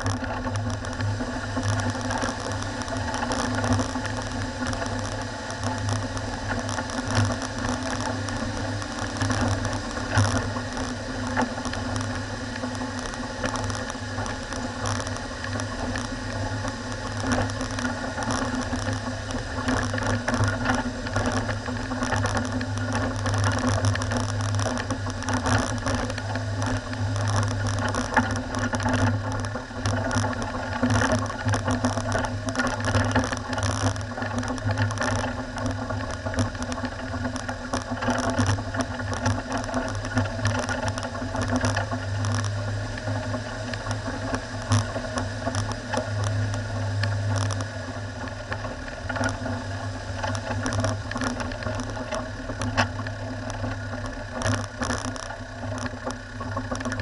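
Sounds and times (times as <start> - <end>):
rattles over gravel track: 0.0 - 57.0
vehicle engine running: 0.0 - 57.0.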